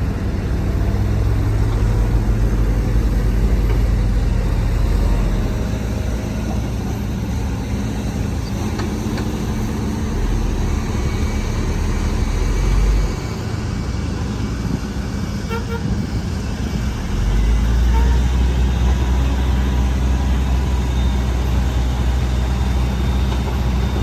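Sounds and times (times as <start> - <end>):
diesel machinery rumbling: 0.0 - 24.0.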